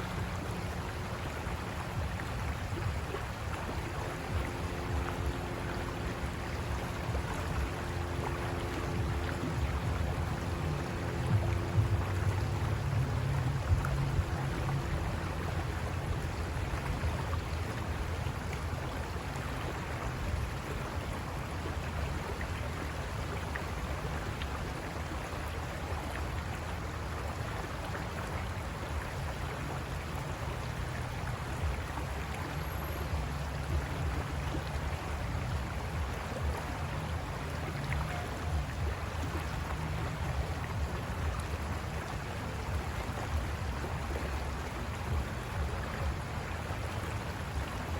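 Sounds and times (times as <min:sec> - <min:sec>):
river water rushing over rocks: 0:00.0 - 0:47.9.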